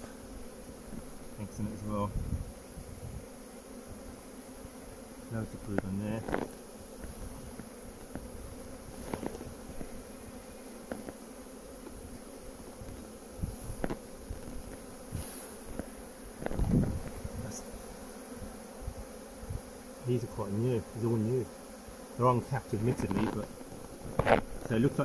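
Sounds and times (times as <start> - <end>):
bees humming: 0.0 - 25.0.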